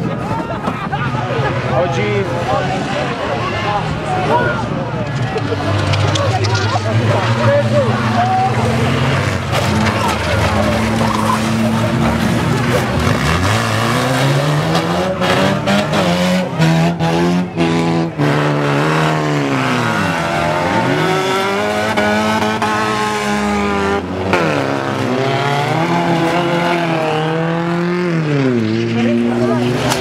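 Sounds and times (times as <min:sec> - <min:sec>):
racing car engines revving: 0:00.0 - 0:30.0.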